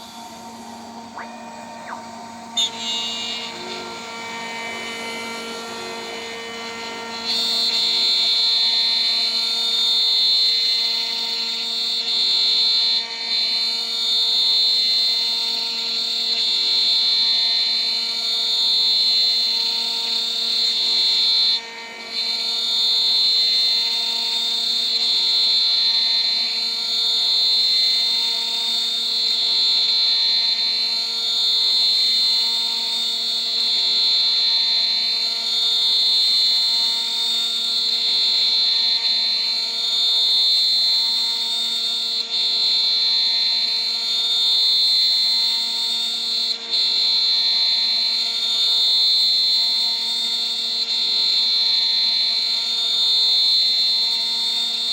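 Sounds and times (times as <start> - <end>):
cnc router spindle whine: 0.0 - 54.9.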